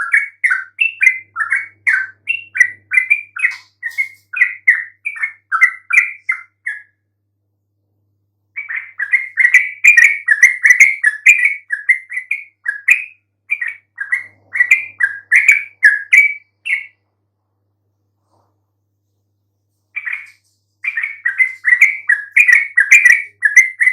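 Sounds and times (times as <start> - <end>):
bird chirping song: 0.0 - 7.2, 8.5 - 17.2, 18.2 - 23.9.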